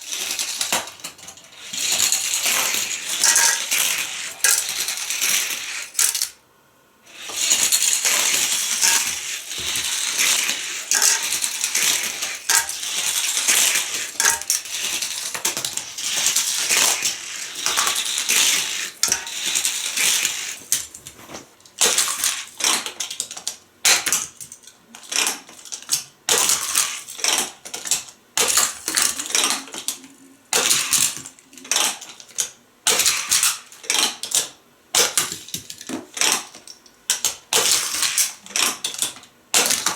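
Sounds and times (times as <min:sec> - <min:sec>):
plastic toy track clattering: 0:00.0 - 0:06.4, 0:07.1 - 0:39.9.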